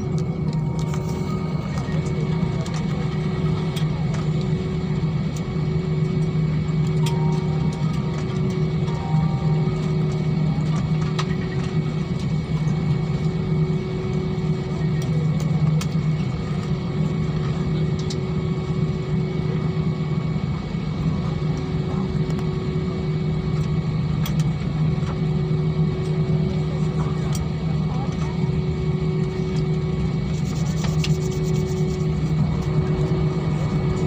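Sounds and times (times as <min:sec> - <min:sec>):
airliner cabin hum: 0:00.0 - 0:34.0.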